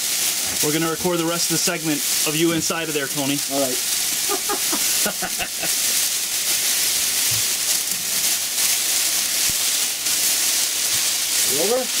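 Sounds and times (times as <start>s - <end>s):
foil blankets crinkling: 0.0s - 12.0s.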